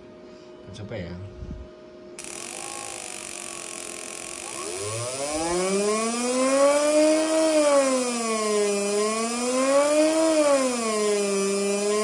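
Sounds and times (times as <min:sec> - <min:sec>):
buzzing whine rising in pitch: 0:02.2 - 0:12.0.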